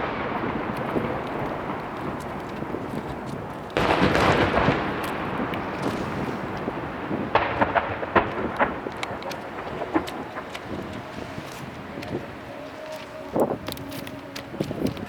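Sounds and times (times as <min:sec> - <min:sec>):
firework crackling pops: 0:00.0 - 0:15.0
firework shells bursting: 0:00.0 - 0:15.0.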